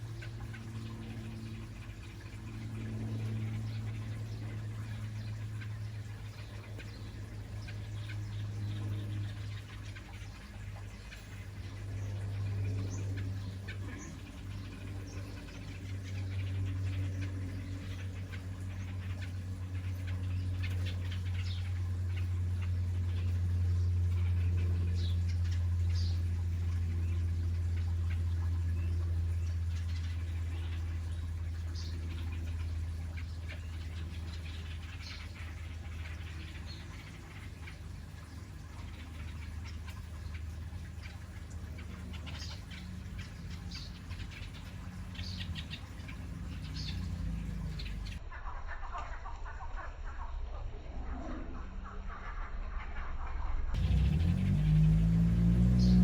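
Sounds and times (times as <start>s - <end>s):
small birds chirping: 0.0s - 48.2s, 53.7s - 56.0s
steady low hum: 0.0s - 48.3s, 50.3s - 56.0s.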